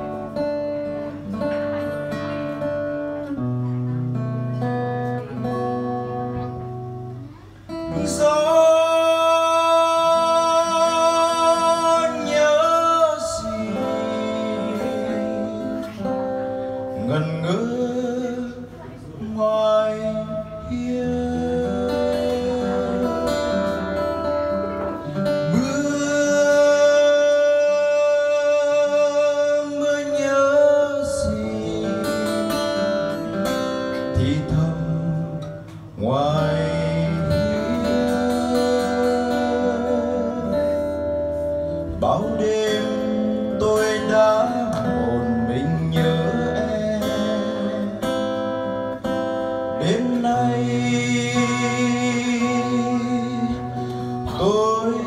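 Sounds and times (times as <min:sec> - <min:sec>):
acoustic guitar: 0:00.0 - 0:55.0
young man singing: 0:07.4 - 0:55.0.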